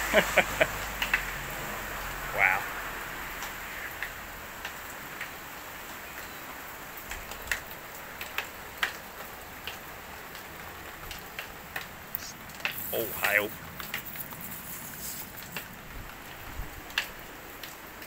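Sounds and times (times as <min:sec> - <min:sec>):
light rain hissing: 0:00.0 - 0:18.0.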